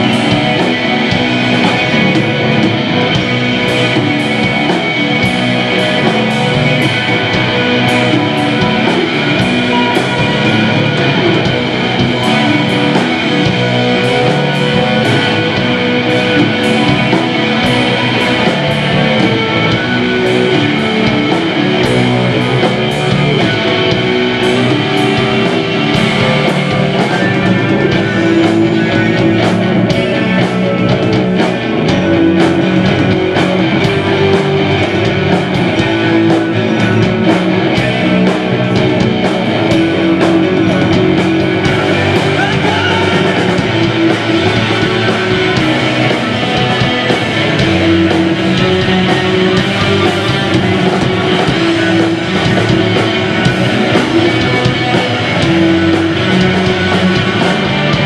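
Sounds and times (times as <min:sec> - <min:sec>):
bass guitar: 0:00.0 - 0:58.0
drum kit with cymbals: 0:00.0 - 0:58.0
electric guitars: 0:00.0 - 0:58.0.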